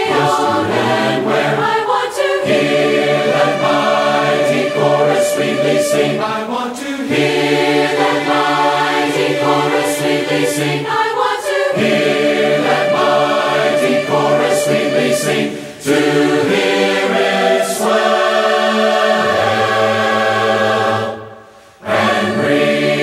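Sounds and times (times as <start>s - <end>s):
choir singing a slow hymn: 0.0s - 23.0s.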